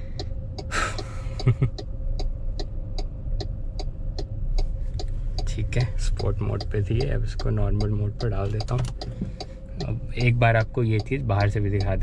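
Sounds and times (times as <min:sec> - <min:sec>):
car engine humming: 0:00.0 - 0:12.0
turn signal clicking: 0:00.0 - 0:12.0.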